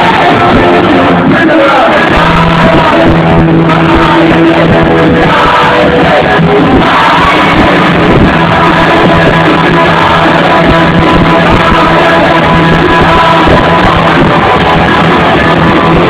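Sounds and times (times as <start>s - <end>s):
electric guitar: 0.0s - 16.0s
person singing or shouting: 0.0s - 16.0s
punk rock band playing live: 0.0s - 16.0s.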